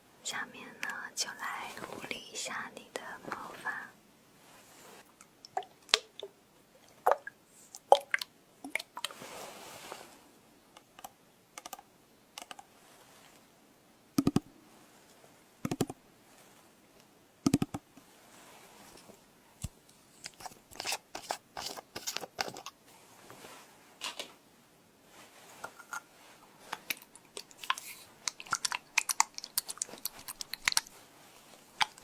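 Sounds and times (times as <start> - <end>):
soft hiss: 0.0 - 22.1, 22.7 - 28.4, 30.8 - 32.0.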